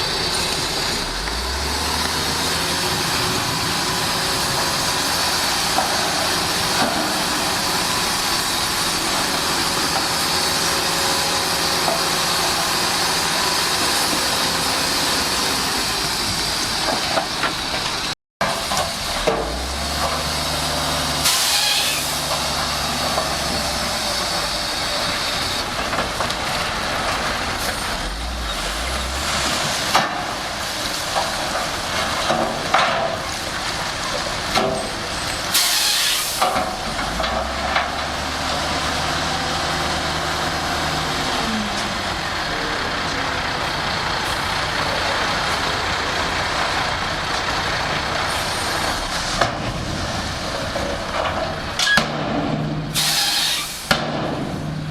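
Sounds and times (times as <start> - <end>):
bulldozer diesel engine: 0.0 - 54.9.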